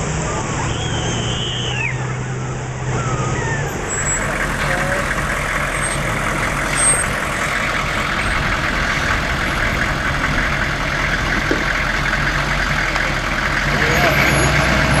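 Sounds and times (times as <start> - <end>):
truck engine running steadily: 0.0 - 15.0.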